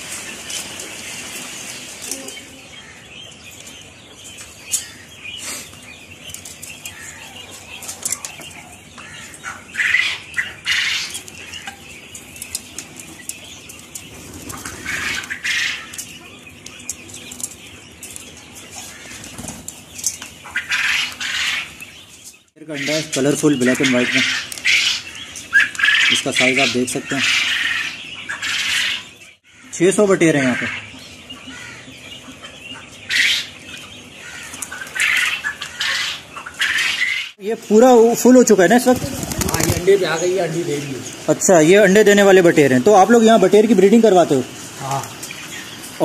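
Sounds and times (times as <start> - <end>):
birds fluttering and scuffling: 0.0 - 46.0
chirping calls: 0.0 - 46.0.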